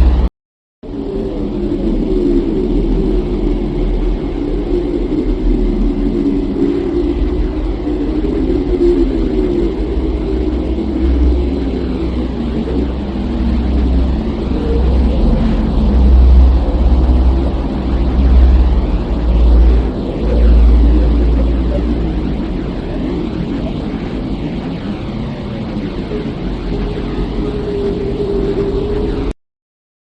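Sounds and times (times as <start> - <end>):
low rumbling drone: 0.0 - 29.4.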